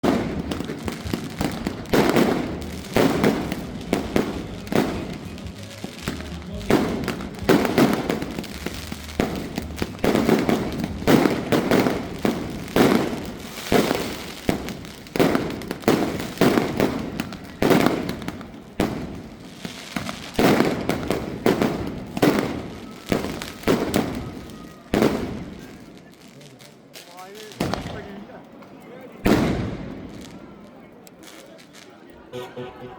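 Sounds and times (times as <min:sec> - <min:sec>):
firework bangs: 0:00.0 - 0:25.7, 0:27.6 - 0:28.1, 0:29.3 - 0:30.2.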